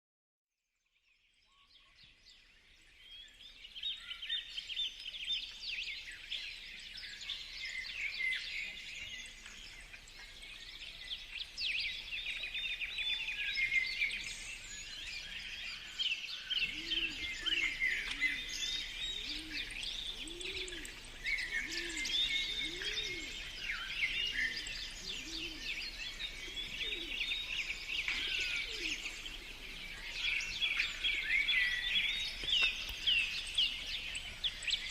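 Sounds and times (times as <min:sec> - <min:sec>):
birds chirping and trilling: 0:01.0 - 0:34.9.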